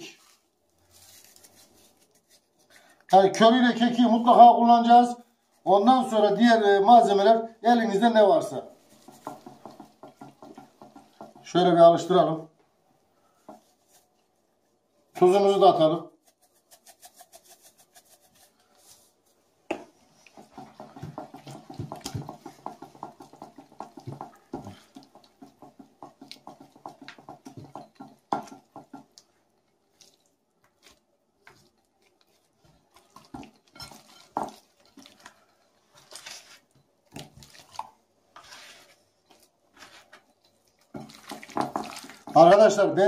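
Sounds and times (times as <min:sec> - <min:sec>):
wet mixing strokes in a bowl: 0:00.0 - 0:03.2, 0:07.9 - 0:11.6, 0:13.0 - 0:15.2, 0:16.0 - 0:42.9.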